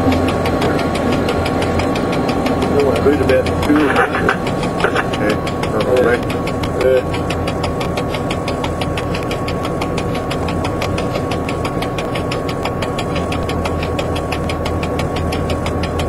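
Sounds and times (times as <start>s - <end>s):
fast even ticking: 0.0s - 16.0s
thin steady whine: 0.0s - 16.0s
train engine drone: 0.0s - 16.0s.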